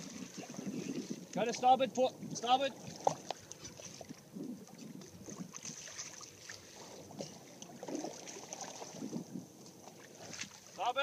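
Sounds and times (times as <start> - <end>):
wind on microphone: 0.0 - 6.0, 6.8 - 10.6
water lapping against boat hull: 0.0 - 11.0.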